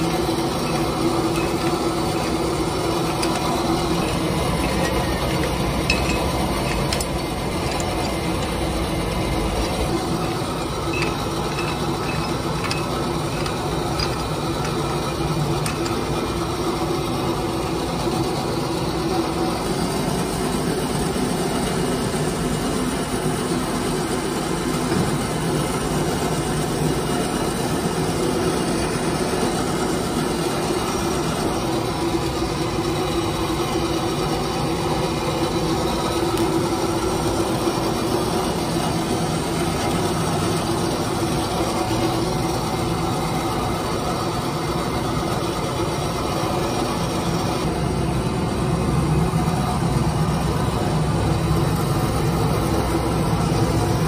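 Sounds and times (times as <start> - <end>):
factory machinery droning: 0.0 - 54.0.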